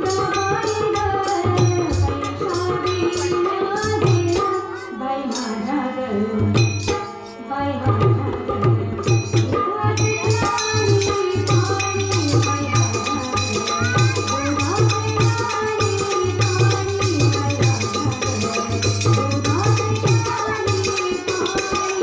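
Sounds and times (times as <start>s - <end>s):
hand drums: 0.0s - 4.8s, 6.4s - 7.2s, 7.8s - 22.0s.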